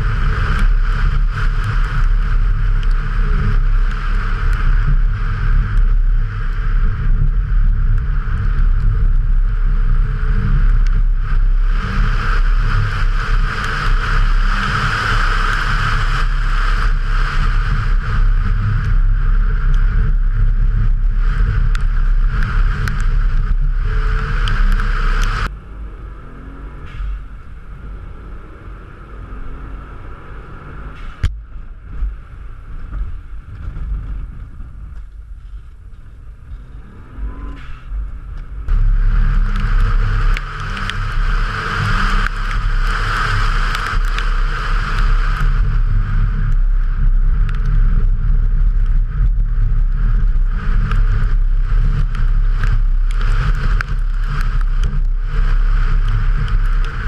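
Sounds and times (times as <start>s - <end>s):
rally car engine running hard: 0.0s - 57.0s
tyres on wet road: 0.0s - 57.0s
wind: 0.0s - 57.0s.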